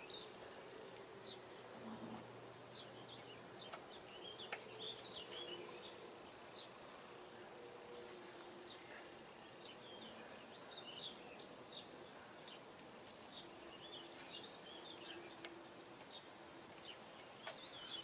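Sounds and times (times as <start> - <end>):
faint birds chirping: 0.0 - 18.0
outdoor background hiss: 0.0 - 18.0.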